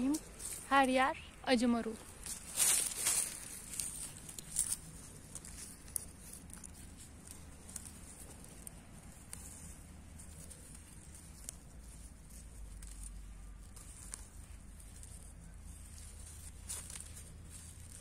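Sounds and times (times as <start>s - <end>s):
low steady rumble: 0.0s - 18.0s
plants rustling while picked: 0.0s - 18.0s.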